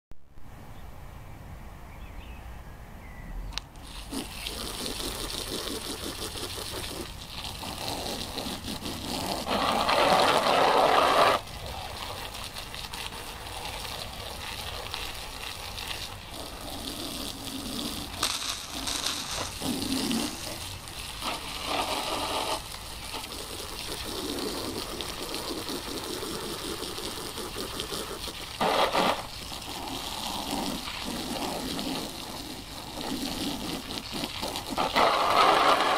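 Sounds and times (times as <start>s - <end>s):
water jet spraying on a buggy: 3.8s - 35.9s.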